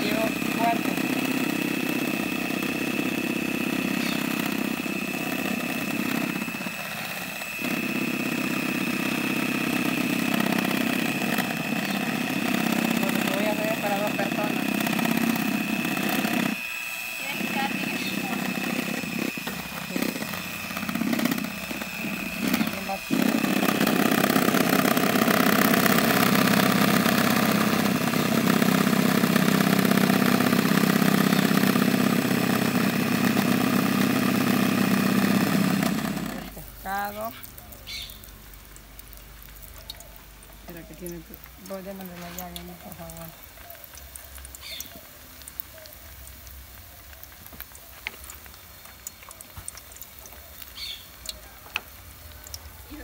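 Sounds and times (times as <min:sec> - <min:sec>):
electric hand mixer whipping eggs: 0:00.0 - 0:53.0
fish frying in hot oil: 0:00.0 - 0:53.0.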